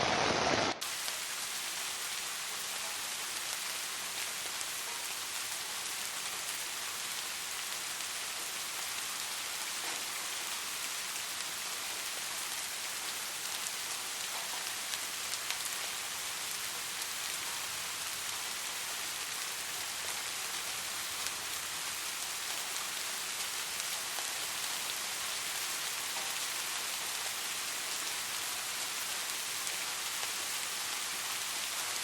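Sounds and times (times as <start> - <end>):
rain hissing: 0.0 - 32.0.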